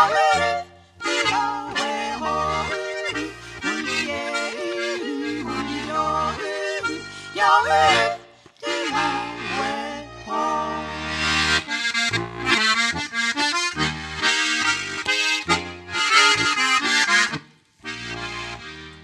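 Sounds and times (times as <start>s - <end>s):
accordion playing folk tune: 0.0s - 19.0s.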